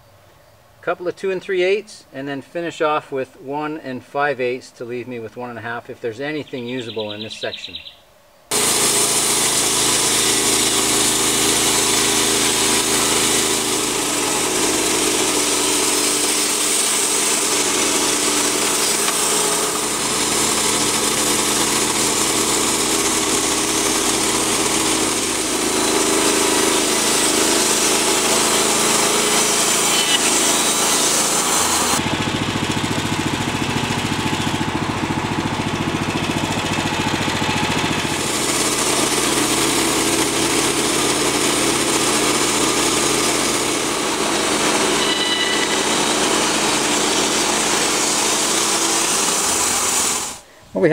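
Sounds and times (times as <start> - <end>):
bandsaw sawmill cutting log: 8.5 - 50.5.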